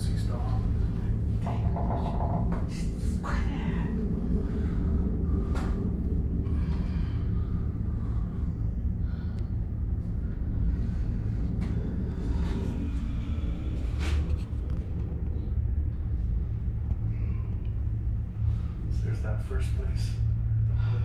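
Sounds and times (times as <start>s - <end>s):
gondola cabin ride rumble: 0.0s - 21.0s.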